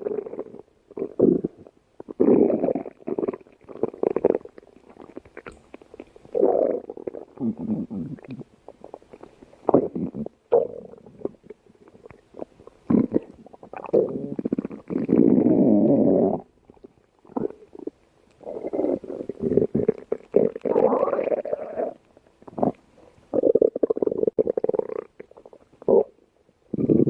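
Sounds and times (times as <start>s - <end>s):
stomach growling: 0.0s - 27.0s.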